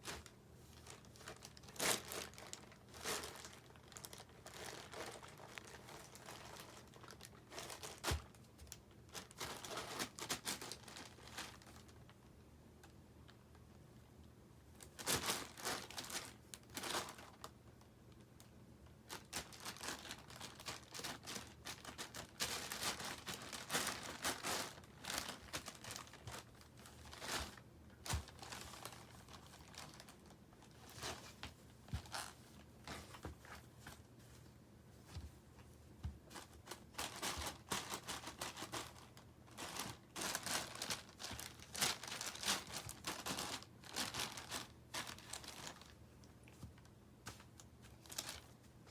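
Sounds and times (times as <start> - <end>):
plastic packaging crinkling: 0.0 - 12.2, 14.8 - 17.6, 19.0 - 33.2, 36.3 - 46.2, 48.0 - 48.5.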